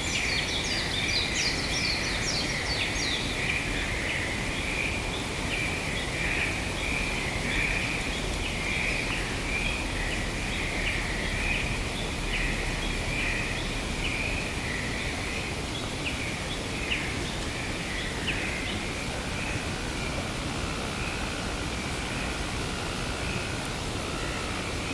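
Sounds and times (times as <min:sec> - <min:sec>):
wind hiss: 0:00.0 - 0:24.9.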